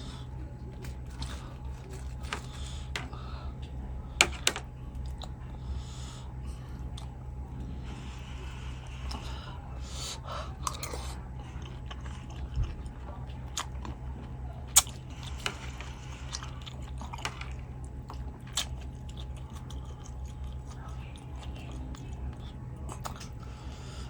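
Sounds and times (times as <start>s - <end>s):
person chewing and eating: 0.0s - 24.0s
steady low hum: 0.0s - 24.0s.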